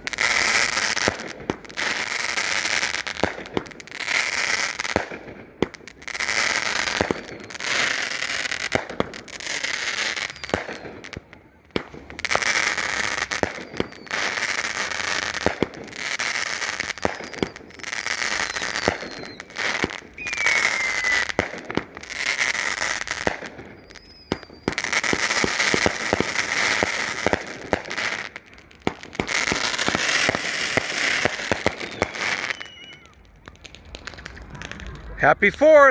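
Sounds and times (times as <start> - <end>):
falling firework whistles: 0.0 - 35.2
fireworks crackling and popping: 0.0 - 35.9.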